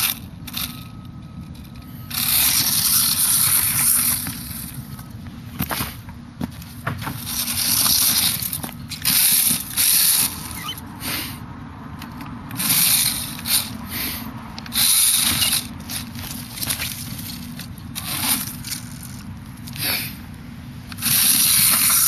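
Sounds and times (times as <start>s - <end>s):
toy truck motor whining: 0.0s - 5.2s, 7.2s - 20.3s, 20.9s - 22.0s
tyres rustling over dry leaves: 0.0s - 11.4s, 12.1s - 22.0s.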